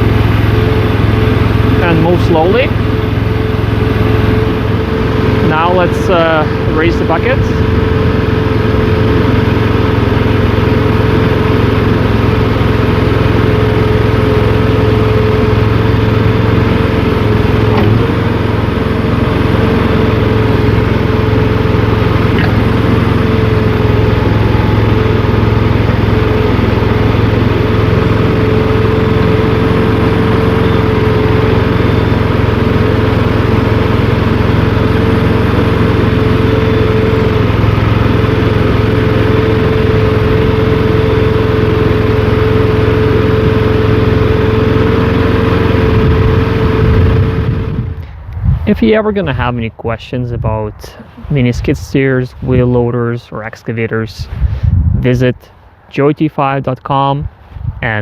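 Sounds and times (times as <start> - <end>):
hydraulic whine: 0.0 - 48.7
engine running under load: 0.0 - 56.4.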